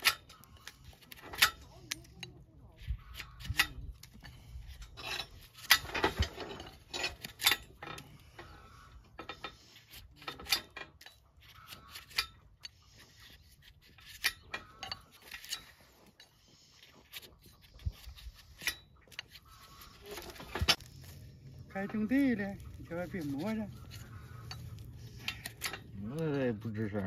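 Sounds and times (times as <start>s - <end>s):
blade scraping hoof: 0.0s - 27.0s.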